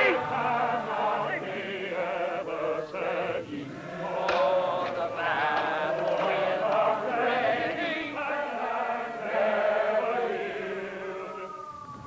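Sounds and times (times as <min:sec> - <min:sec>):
men's chorus singing: 0:00.0 - 0:11.6.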